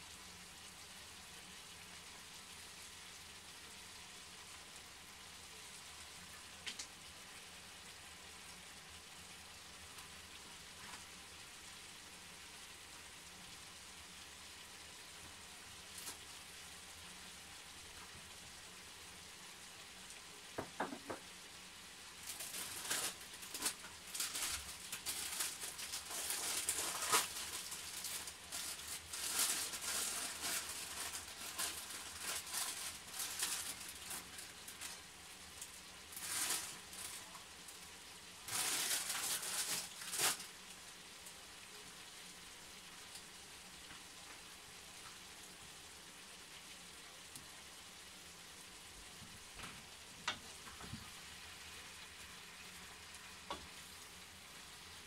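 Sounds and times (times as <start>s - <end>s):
chicken sizzling in a pan: 0.0s - 55.0s.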